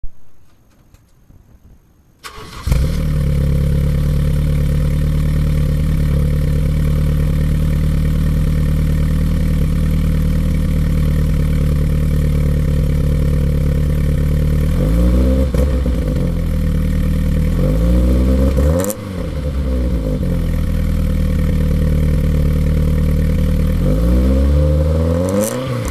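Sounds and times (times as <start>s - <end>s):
car engine starting and idling: 2.2s - 25.9s.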